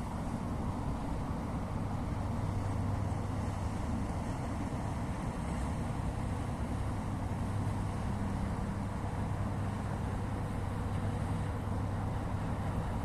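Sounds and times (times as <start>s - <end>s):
boat diesel engine droning: 0.0s - 13.0s.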